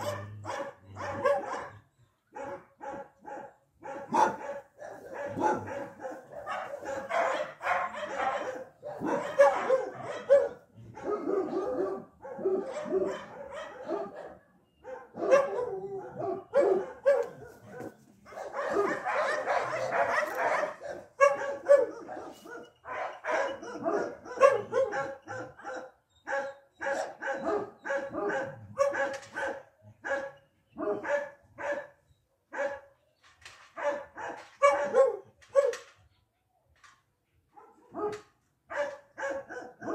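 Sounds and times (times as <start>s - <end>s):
dog barking: 0.0s - 33.0s, 33.8s - 35.9s, 37.5s - 39.9s.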